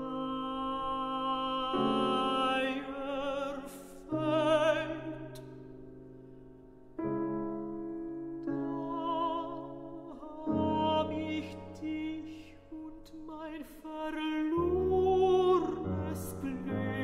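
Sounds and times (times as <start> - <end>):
woman singing classical with vibrato: 0.0 - 5.4, 8.5 - 17.0
piano chords: 0.0 - 17.0.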